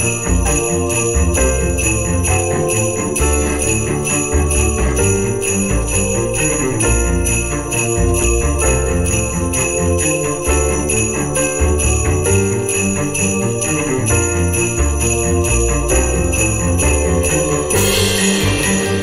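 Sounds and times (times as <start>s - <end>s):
sleigh bells jingling: 0.0s - 19.0s
upbeat christmas music: 0.0s - 19.0s.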